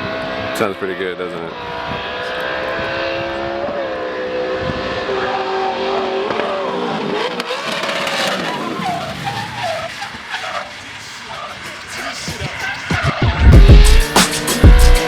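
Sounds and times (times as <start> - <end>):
car engine at full throttle: 0.0 - 15.0
tires squealing: 0.0 - 15.0.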